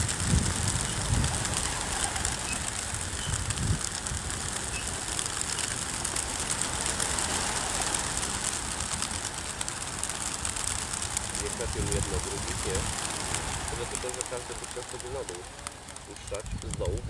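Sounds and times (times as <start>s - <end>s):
pigeon wings flapping: 0.0s - 17.0s.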